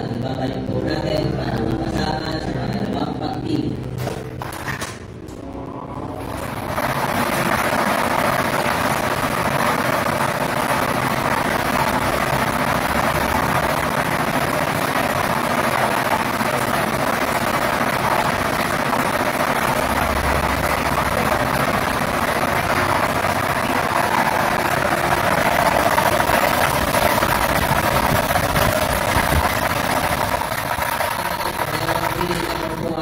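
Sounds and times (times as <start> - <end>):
lottery machine blower rushing: 3.8 - 33.0.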